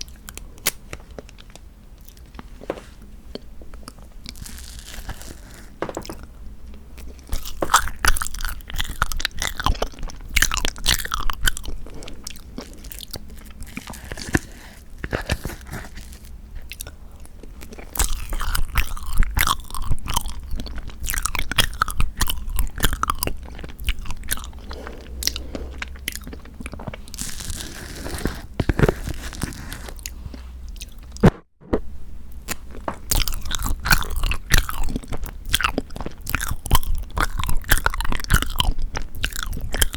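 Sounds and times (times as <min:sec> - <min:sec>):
chewing and biting: 0:03.3 - 0:31.2, 0:32.4 - 0:39.9.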